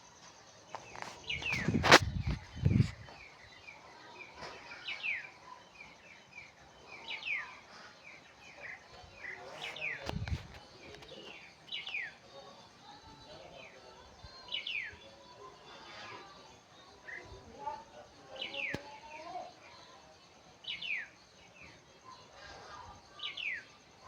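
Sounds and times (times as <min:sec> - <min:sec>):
birds chirping: 0:00.0 - 0:19.4.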